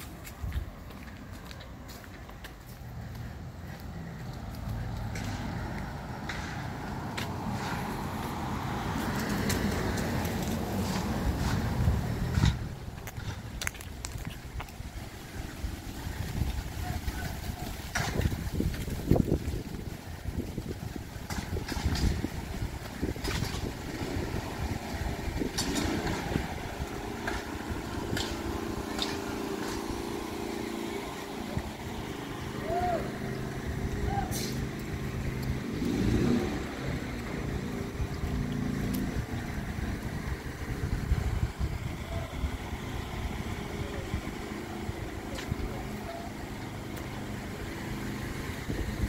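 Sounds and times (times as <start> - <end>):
vehicle engine humming: 0.0 - 49.0
wind buffeting microphone: 5.8 - 32.1, 32.7 - 46.0, 46.8 - 49.0.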